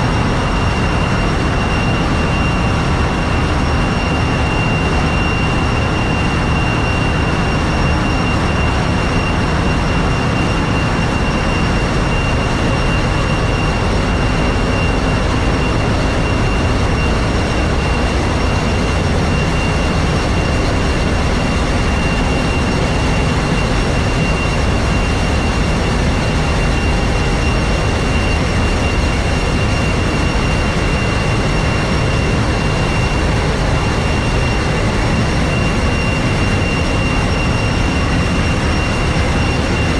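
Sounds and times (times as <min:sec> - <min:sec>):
high steady machine whine: 0:00.0 - 0:39.9
ship engine room rumble: 0:00.0 - 0:39.9.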